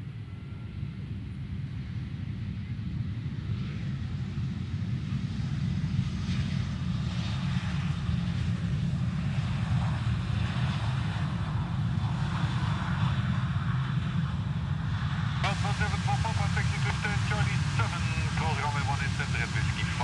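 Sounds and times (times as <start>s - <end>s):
jet engines rumbling: 0.1s - 20.0s.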